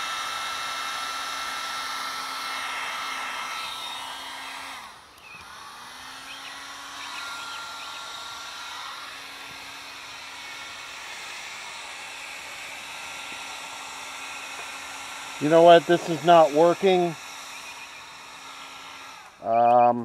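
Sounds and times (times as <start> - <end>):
heat gun fan blowing: 0.0 - 20.0.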